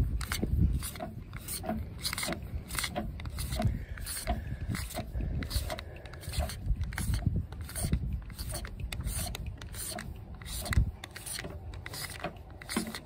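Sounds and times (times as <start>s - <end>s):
cable rubbing and scraping: 0.0s - 13.0s.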